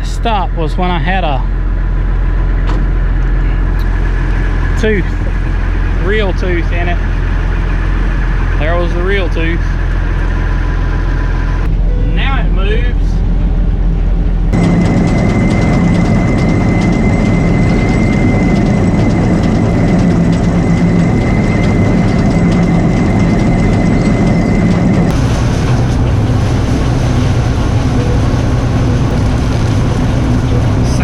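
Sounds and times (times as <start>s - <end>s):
combine harvester running: 0.0s - 31.0s
thin high whine: 3.4s - 31.0s.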